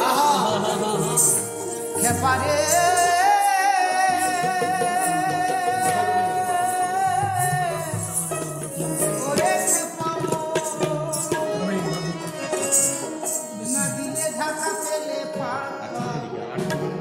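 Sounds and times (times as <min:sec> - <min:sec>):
man singing a long high note: 0:00.0 - 0:16.6
folk band playing: 0:00.0 - 0:17.0
jingling percussion: 0:00.8 - 0:15.2.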